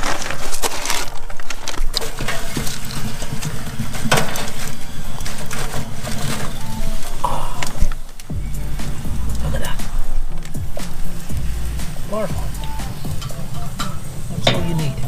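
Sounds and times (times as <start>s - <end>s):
coals clinking and crunching: 0.0s - 15.0s.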